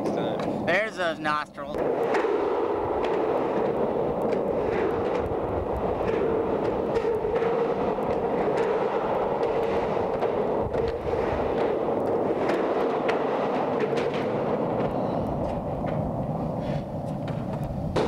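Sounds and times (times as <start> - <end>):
skateboard wheels rumbling on concrete: 1.7 - 18.0.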